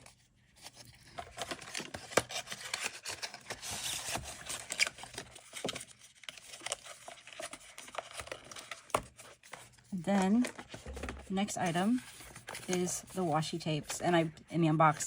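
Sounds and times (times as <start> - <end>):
hands handling packaging: 0.0 - 15.0.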